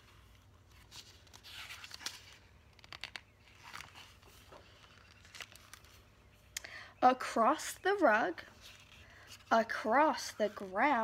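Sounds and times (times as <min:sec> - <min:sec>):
book pages rustling: 0:00.0 - 0:06.6, 0:08.4 - 0:11.0.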